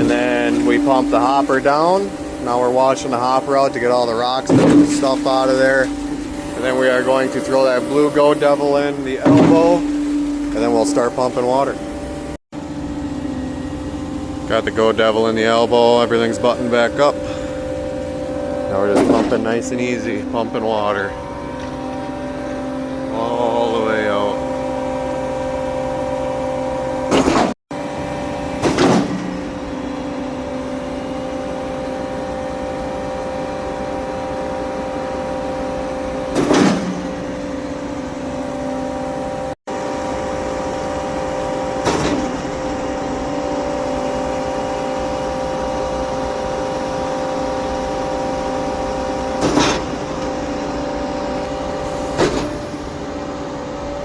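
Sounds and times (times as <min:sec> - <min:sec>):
concrete pump engine humming: 0:00.0 - 0:54.0.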